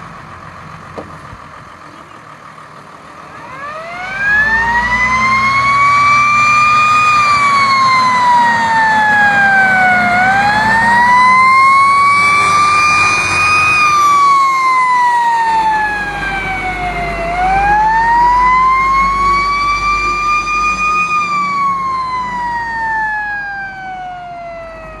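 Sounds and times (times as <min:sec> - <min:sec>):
truck engine running: 0:00.0 - 0:25.0
fire truck siren wailing: 0:03.2 - 0:25.0.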